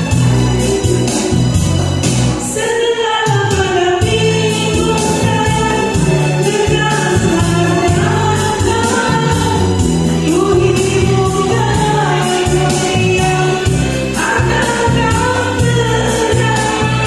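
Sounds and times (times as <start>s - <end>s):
repeating bass line: 0.0s - 2.6s, 4.0s - 17.0s
song with singing: 0.0s - 17.0s.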